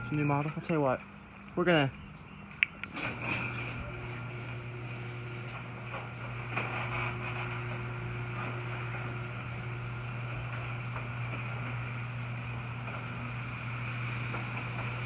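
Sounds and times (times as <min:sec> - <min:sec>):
garage door opener motor hum: 0:02.5 - 0:15.0
chain drive noise: 0:02.9 - 0:15.0.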